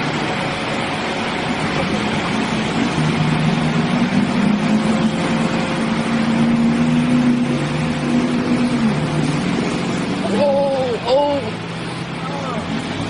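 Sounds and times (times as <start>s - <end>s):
loud wash of noise: 0.0s - 13.0s
vehicle engine running: 0.0s - 13.0s.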